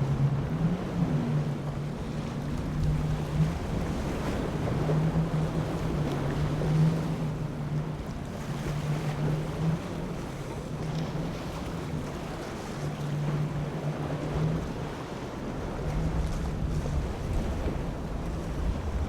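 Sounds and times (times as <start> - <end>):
motorboat engine humming: 0.0 - 19.0
waves: 0.0 - 19.0
wind on microphone: 0.0 - 19.0.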